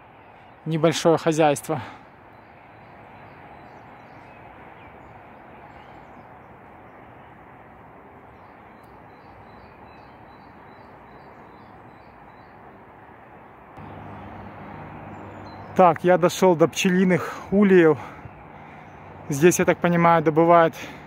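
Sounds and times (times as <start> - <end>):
small birds chirping: 0.0 - 7.6, 8.2 - 12.9, 13.5 - 21.0.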